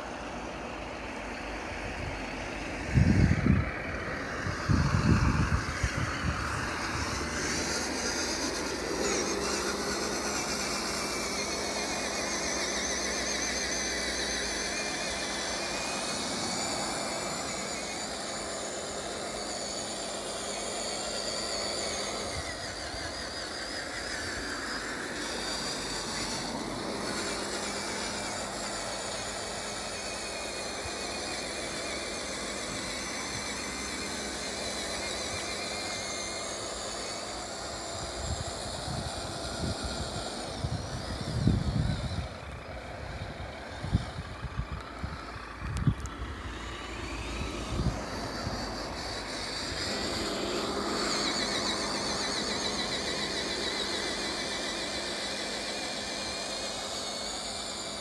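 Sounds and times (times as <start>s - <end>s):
toy truck motor whining: 0.0s - 58.0s.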